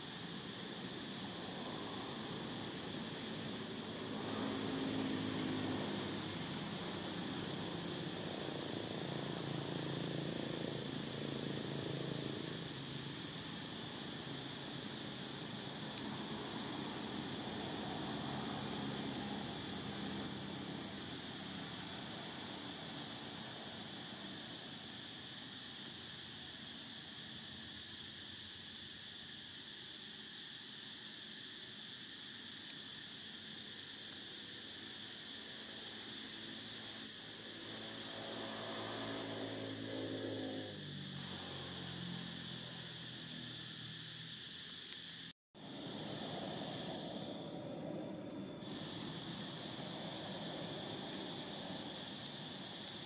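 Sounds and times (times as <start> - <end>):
engine droning: 0.0 - 26.0, 35.4 - 53.0
steady high hiss: 0.0 - 53.0.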